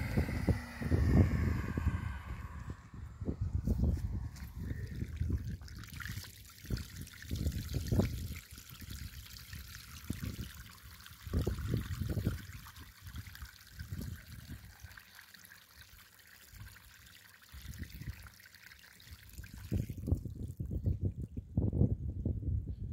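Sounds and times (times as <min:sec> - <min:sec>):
water gushing from a hose: 0:00.0 - 0:21.1.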